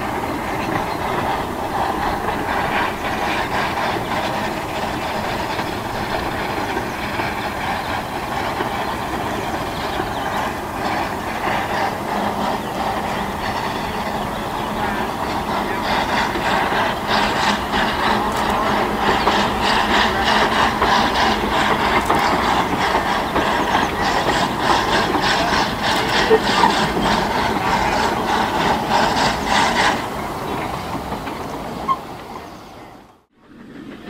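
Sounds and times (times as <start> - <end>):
steam locomotive chuffing: 0.0 - 34.0.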